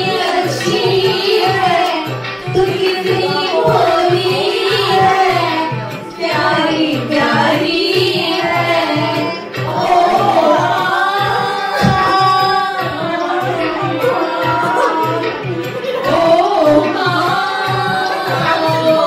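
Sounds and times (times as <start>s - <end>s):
person singing: 0.0s - 19.0s
steady drum beat: 0.0s - 19.0s.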